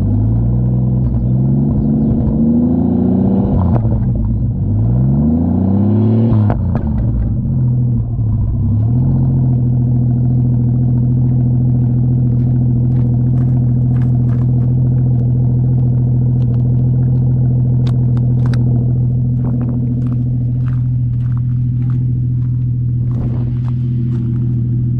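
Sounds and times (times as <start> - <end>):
car engine revving and idling: 0.0 - 24.9.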